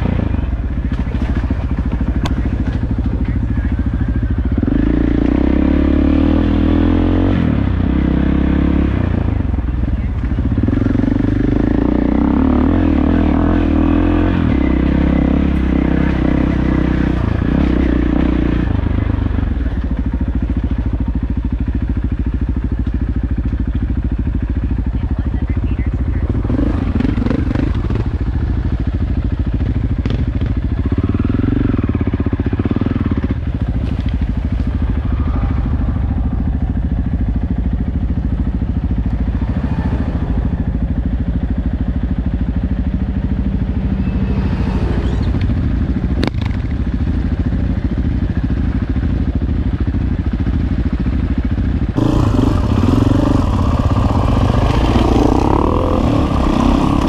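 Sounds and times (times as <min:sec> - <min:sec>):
motorcycle engine pulsing: 0:00.0 - 0:57.0.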